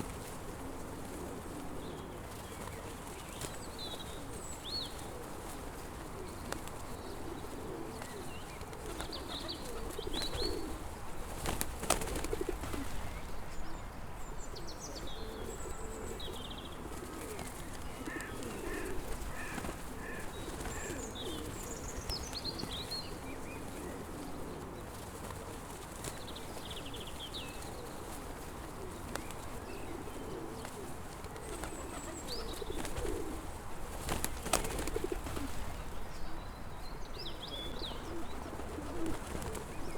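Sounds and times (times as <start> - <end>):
pigeons cooing: 0.0 - 13.2, 14.5 - 25.9, 27.5 - 36.4, 37.4 - 39.9
small birds chirping: 1.7 - 5.2, 6.1 - 25.2, 25.8 - 33.4, 34.0 - 39.9.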